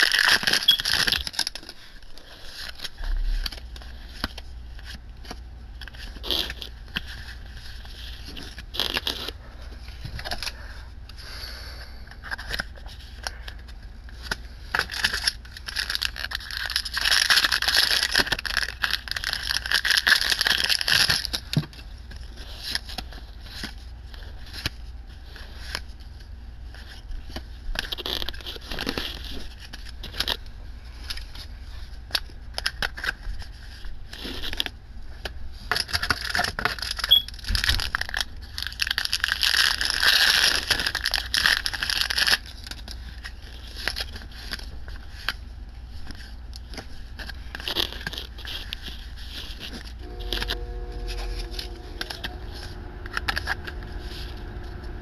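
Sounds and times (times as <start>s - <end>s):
cards rustling and scraping: 0.0s - 55.0s.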